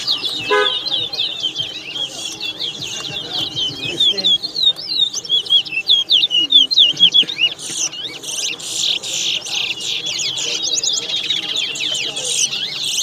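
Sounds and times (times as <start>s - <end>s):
finches chirping song: 0.0s - 13.0s.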